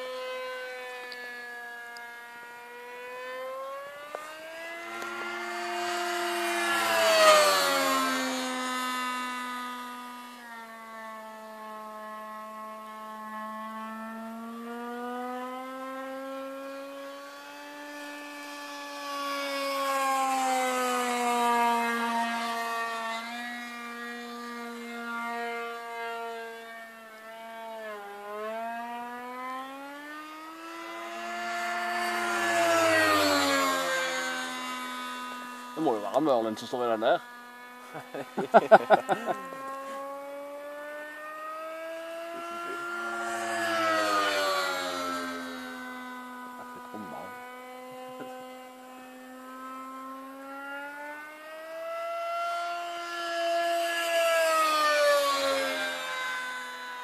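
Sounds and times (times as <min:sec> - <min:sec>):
model airplane engine drone: 0:00.0 - 0:57.0.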